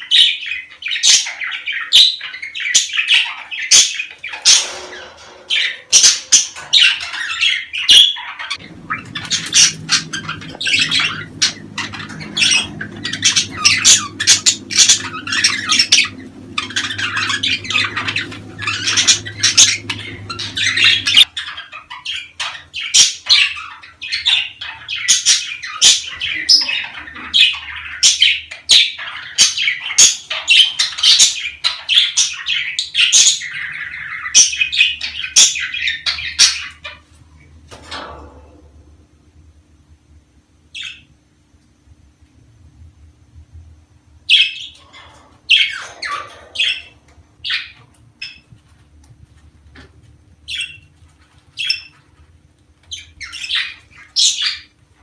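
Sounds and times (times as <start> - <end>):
budgerigars chattering: 0.0 - 37.1, 44.3 - 48.5, 50.5 - 50.9, 51.5 - 52.2, 52.8 - 54.8
low steady hum: 0.0 - 55.0.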